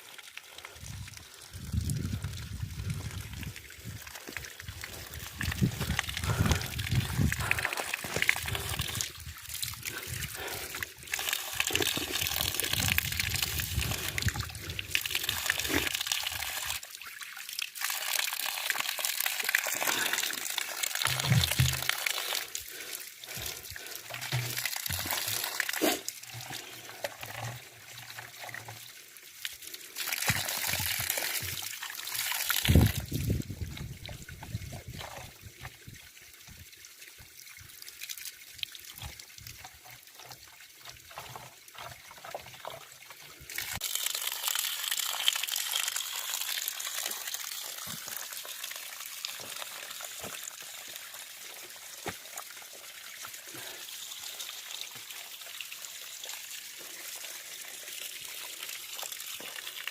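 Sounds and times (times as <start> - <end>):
spring water trickling and splashing: 0.0 - 59.9.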